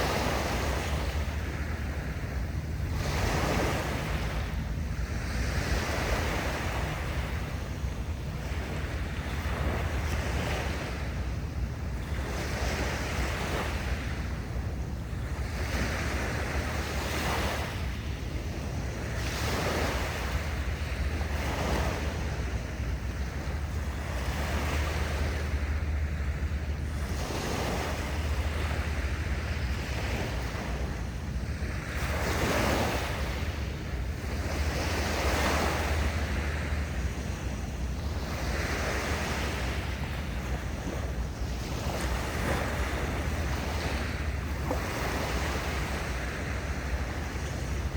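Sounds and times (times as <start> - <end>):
sea waves washing in: 0.0 - 47.9
wind rumble on microphone: 0.0 - 47.9.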